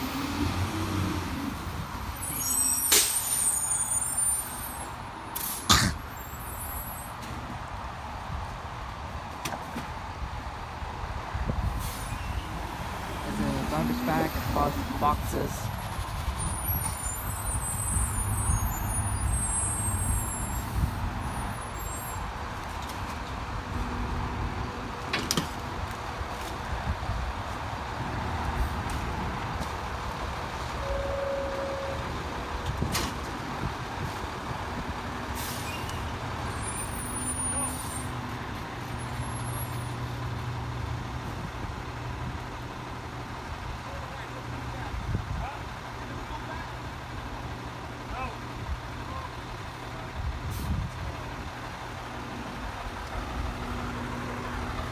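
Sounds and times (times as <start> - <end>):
garbage truck diesel engine rumbling: 10.2 - 54.9.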